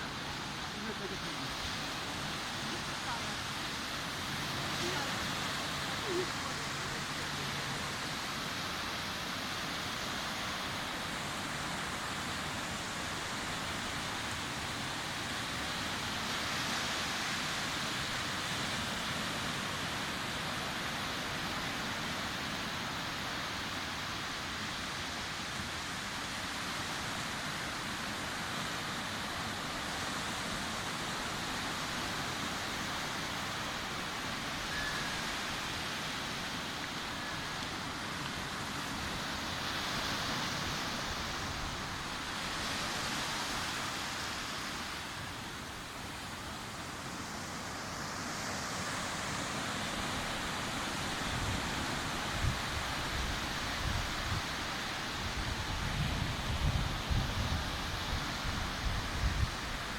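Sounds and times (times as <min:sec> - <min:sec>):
sea surf washing on beach: 0:00.0 - 0:59.9.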